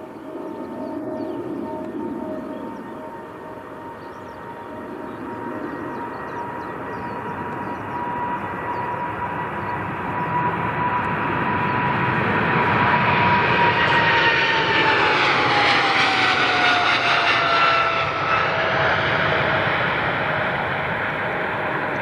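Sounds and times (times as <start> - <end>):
jet airliner passing: 0.0 - 22.0
jet engine whine: 0.0 - 22.0.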